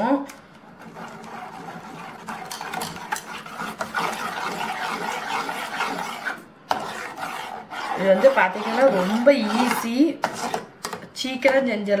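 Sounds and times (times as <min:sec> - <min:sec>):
spoon stirring porridge in a pot: 0:00.6 - 0:11.6.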